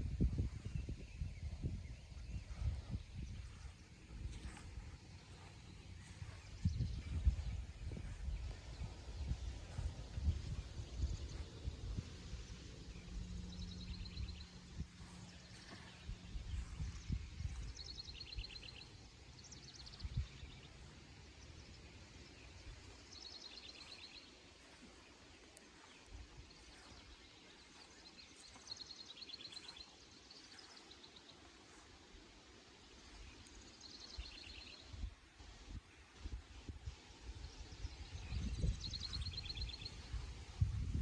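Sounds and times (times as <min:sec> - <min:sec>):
songbirds trilling: 0:00.0 - 0:41.0.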